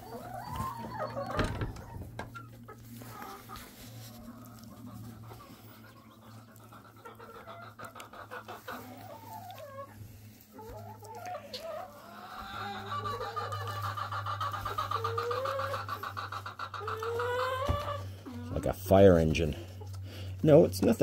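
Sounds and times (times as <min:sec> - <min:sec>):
hens clucking: 0:00.0 - 0:21.0.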